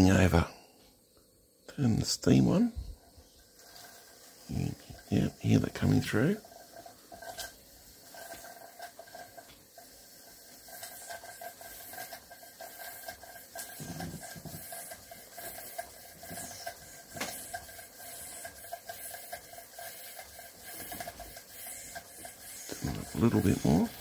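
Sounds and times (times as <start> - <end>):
steam engine hissing and pulsing: 2.2 - 24.0.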